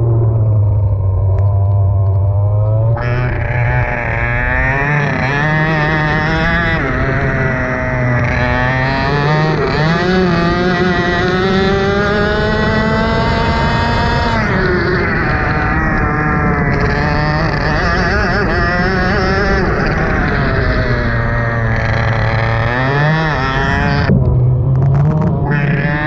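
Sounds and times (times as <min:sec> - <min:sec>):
racing engine revving: 0:00.0 - 0:26.0.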